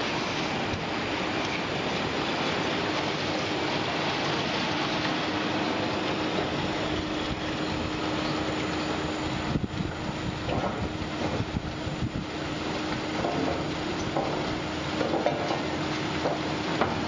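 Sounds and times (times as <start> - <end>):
conveyor and rollers running: 0.0 - 17.0
low motor hum: 0.0 - 17.0.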